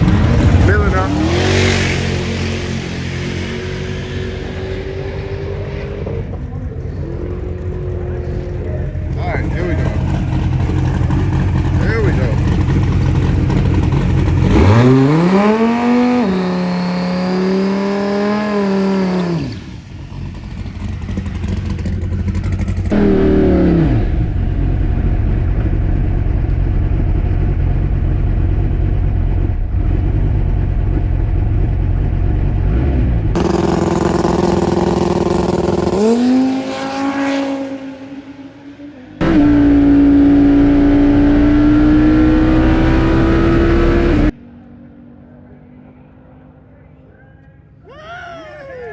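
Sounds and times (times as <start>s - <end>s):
drag car engine revving: 0.0s - 44.4s.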